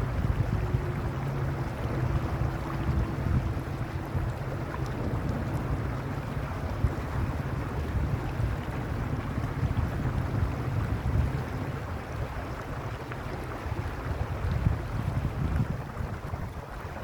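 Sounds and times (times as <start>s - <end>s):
stream rushing over rocks: 0.0s - 17.0s
wind rumble on microphone: 0.0s - 17.0s.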